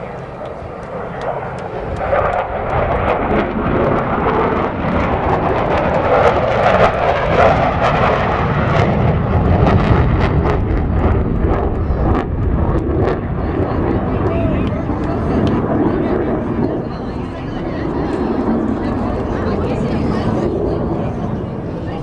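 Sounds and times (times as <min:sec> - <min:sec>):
airplane flying overhead: 0:00.0 - 0:22.0.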